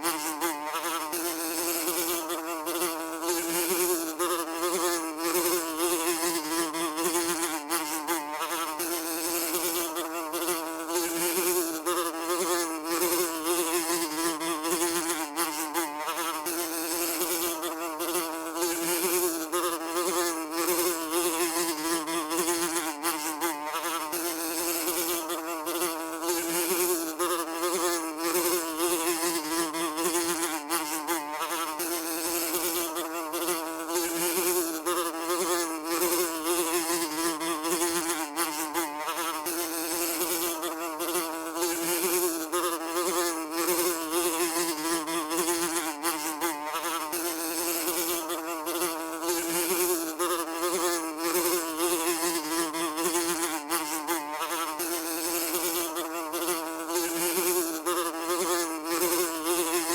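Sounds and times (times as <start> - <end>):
fly buzzing: 0.0 - 59.9.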